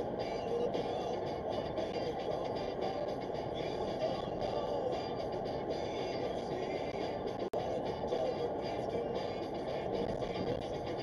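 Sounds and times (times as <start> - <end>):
faint car radio music: 0.0 - 11.0
road and tyre noise: 0.0 - 11.0.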